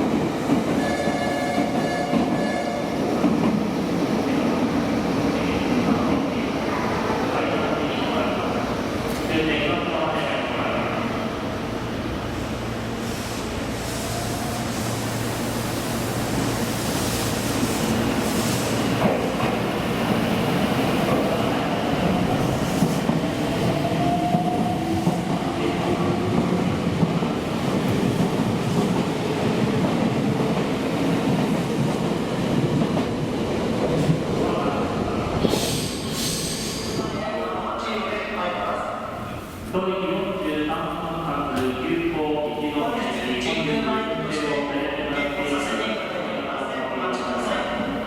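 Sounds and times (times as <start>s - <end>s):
electric train rumbling: 0.0s - 48.0s.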